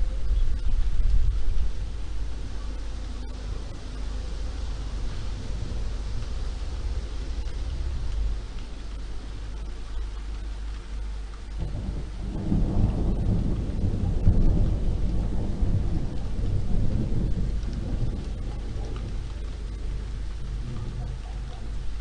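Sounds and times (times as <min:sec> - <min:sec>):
steady rain: 0:00.0 - 0:22.0
thunder rumbling: 0:00.0 - 0:22.0.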